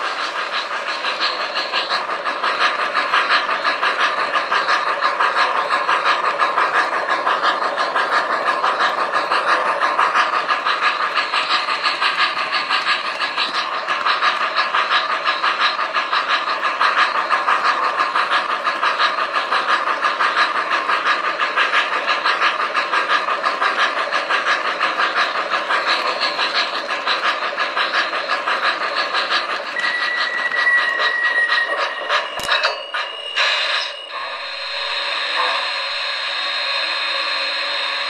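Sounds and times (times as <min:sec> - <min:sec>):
model steam locomotive chuffing: 0:00.0 - 0:38.0.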